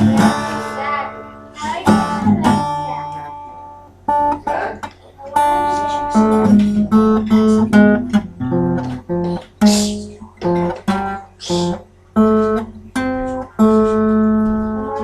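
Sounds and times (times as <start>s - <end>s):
acoustic guitar notes and chords: 0.0s - 15.0s.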